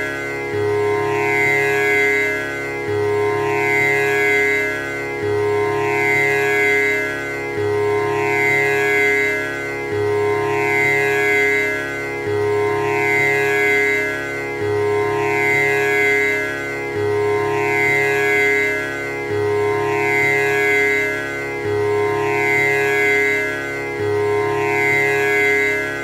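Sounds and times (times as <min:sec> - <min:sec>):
tanpura drone: 0:00.0 - 0:26.0.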